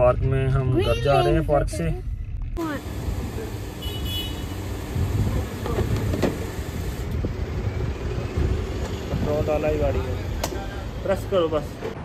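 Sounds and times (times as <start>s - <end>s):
traffic rumbling: 0.0s - 12.0s.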